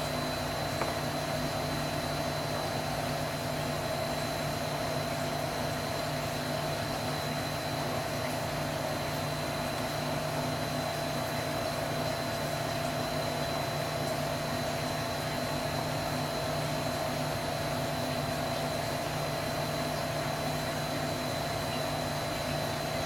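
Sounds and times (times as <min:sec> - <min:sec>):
machine hum and hiss: 0:00.0 - 0:23.0.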